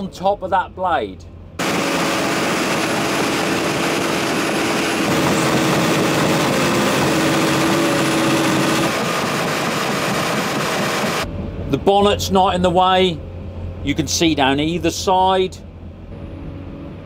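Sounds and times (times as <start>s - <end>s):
bulldozer diesel engine under load: 0.0s - 17.0s.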